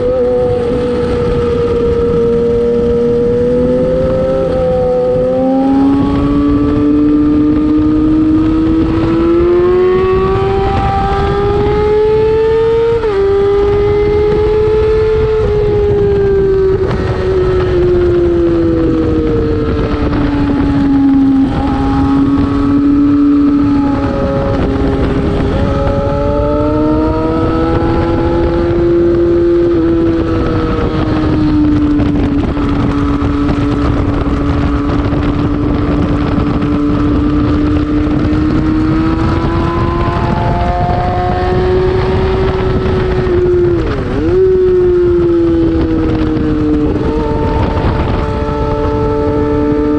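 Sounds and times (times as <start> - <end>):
motorcycle engine at high revs: 0.0 - 49.9
wind noise: 0.0 - 49.9.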